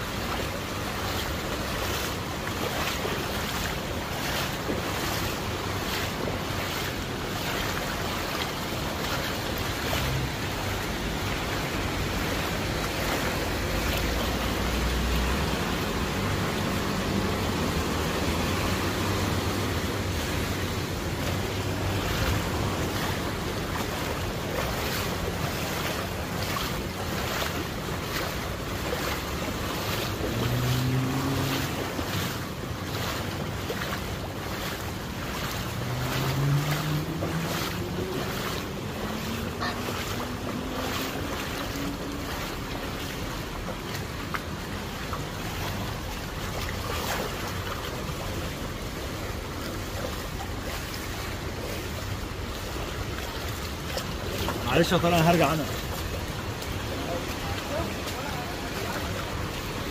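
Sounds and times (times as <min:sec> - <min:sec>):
footsteps sloshing through water: 0:00.0 - 0:59.9
water rushing: 0:00.0 - 0:59.9.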